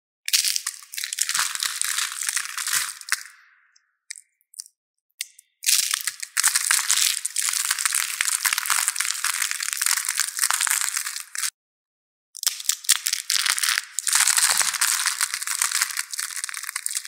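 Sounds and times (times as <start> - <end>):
soap plates crackling: 0.3 - 3.4, 4.1 - 11.5, 12.4 - 17.0.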